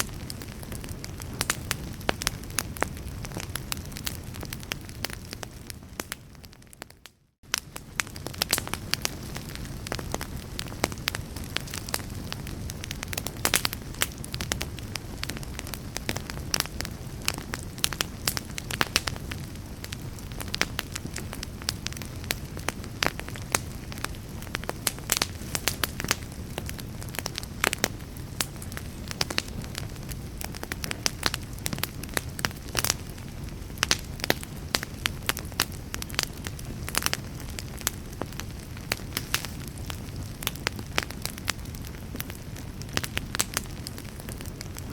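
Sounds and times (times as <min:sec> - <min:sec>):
fire crackling and popping: 0:00.0 - 0:44.9
fire low rumble: 0:00.0 - 0:44.9.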